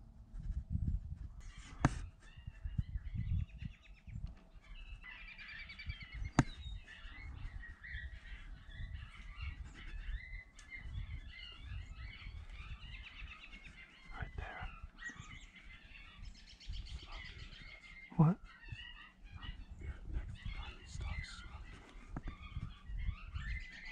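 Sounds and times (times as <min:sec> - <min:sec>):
wind rumbling on microphone: 0:00.0 - 0:23.9
small birds chirping: 0:00.8 - 0:23.9.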